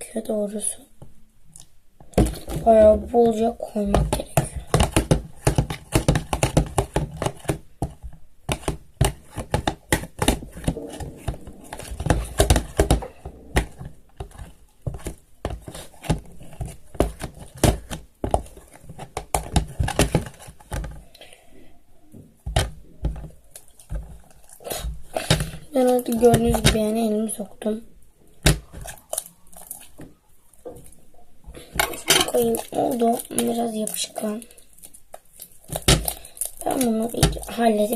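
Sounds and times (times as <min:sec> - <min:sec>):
slime being stirred: 0:01.6 - 0:21.3, 0:22.3 - 0:37.9.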